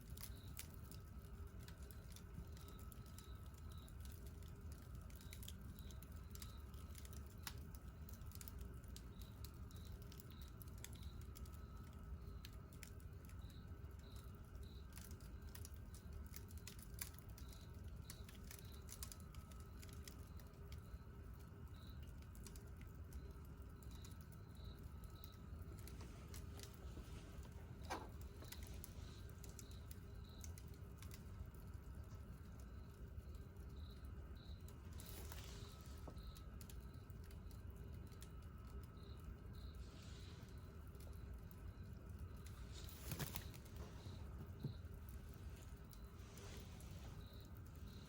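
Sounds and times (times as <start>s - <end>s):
campfire crackling: 0.0s - 48.0s
fire pops and snaps: 0.0s - 48.0s
low steady rumble: 0.0s - 48.0s.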